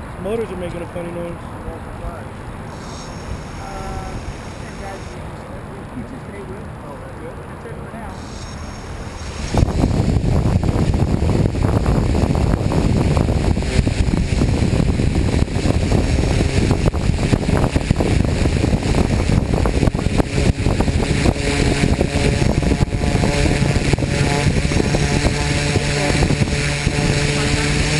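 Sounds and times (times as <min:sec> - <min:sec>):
wind buffeting on microphone: 0:01.1 - 0:06.8, 0:08.0 - 0:27.9
drone motor hum: 0:02.6 - 0:06.7, 0:08.0 - 0:27.9.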